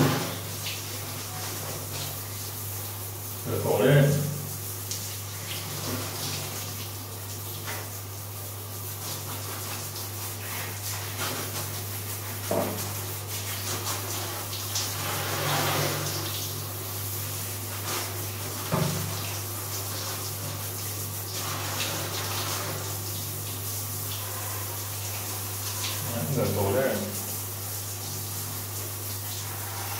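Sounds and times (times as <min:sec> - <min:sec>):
shower sprayer spraying water: 0:00.0 - 0:29.9.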